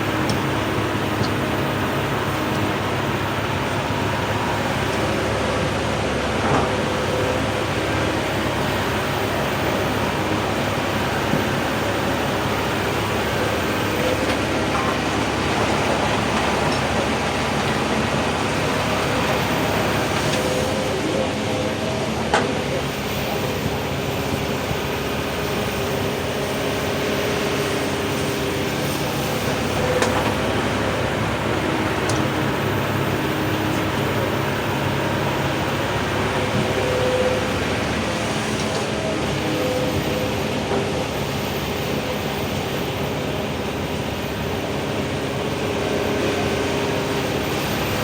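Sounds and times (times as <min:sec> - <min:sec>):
excavator engine and hydraulics: 0:00.0 - 0:48.0.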